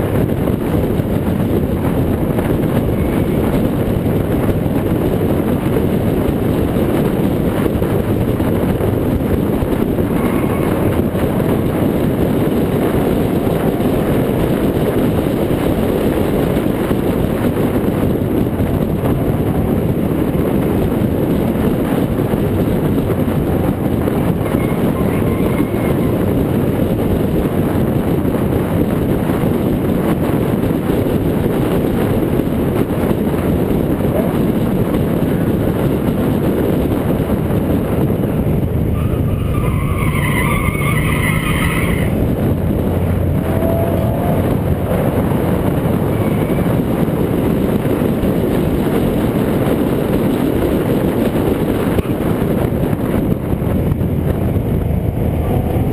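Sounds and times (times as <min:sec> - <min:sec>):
road noise: 0:00.0 - 0:55.9
wind rushing: 0:00.0 - 0:55.9.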